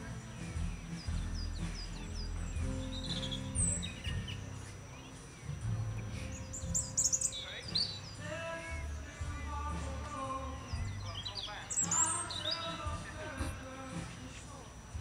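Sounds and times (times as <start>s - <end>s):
high bird chirps: 0.0s - 13.0s
festival music bass: 0.0s - 15.0s.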